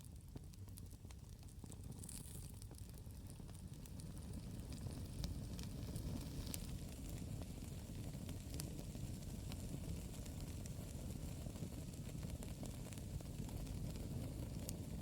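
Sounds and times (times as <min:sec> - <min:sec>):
fire crackles and pops: 0:00.0 - 0:15.0
fire low rumble: 0:00.2 - 0:15.0.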